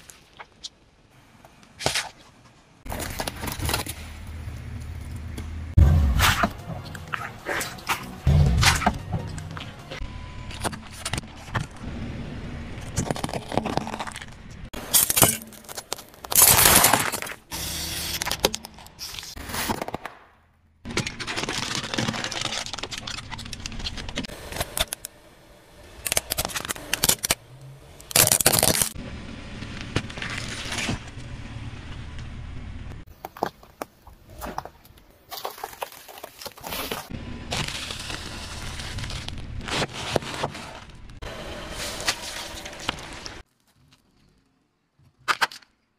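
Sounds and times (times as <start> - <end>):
car tyre crushing objects: 2.8 - 32.4, 33.0 - 44.3.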